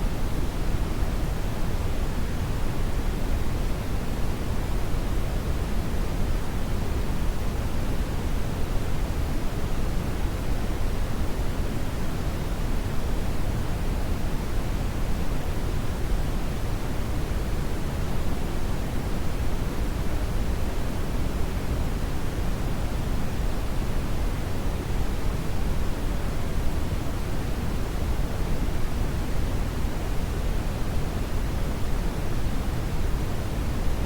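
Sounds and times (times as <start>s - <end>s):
brown noise hiss: 0.0s - 34.0s.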